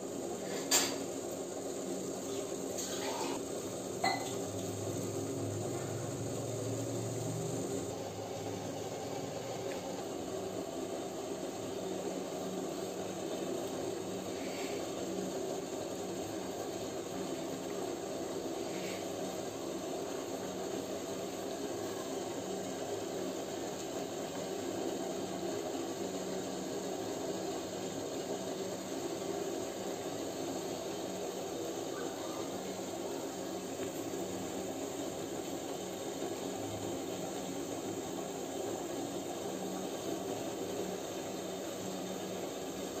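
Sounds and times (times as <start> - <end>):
food frying in hot oil: 0.0 - 43.0.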